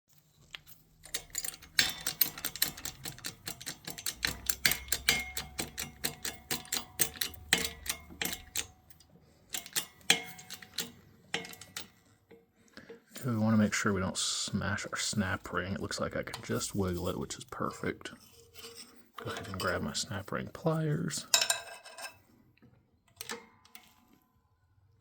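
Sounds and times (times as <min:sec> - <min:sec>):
metallic clicks of steel parts: 0:00.2 - 0:22.3, 0:23.1 - 0:24.2.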